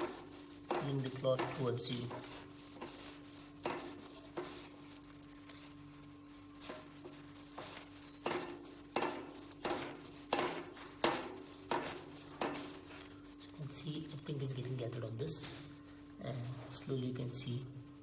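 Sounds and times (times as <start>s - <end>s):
cloth rubbing bicycle cogs: 0.0s - 15.7s.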